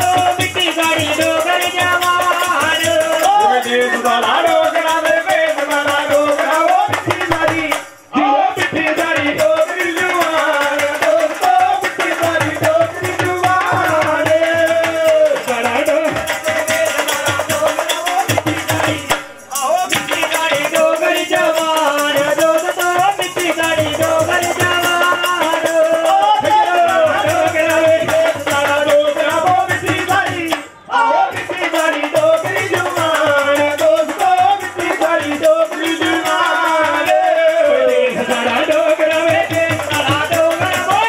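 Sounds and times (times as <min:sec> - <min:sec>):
dholak drum beats: 0:00.0 - 0:41.0
rattling hand percussion: 0:00.0 - 0:41.0.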